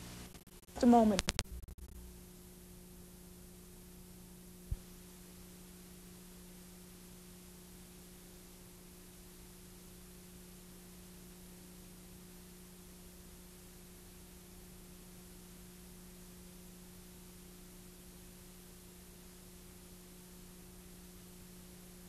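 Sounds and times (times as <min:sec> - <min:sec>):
electrical hum: 0:00.0 - 0:22.0
faint tape hiss: 0:00.0 - 0:22.0.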